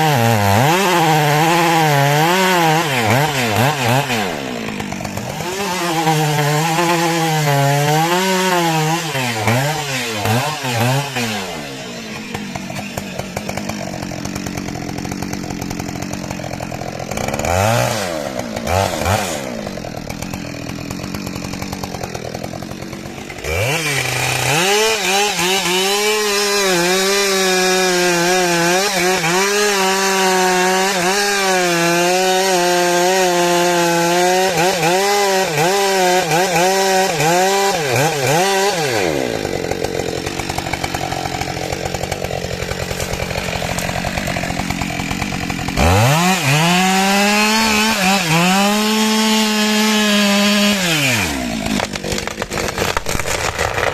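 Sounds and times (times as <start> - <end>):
small engine idling and revving: 0.0 - 53.9.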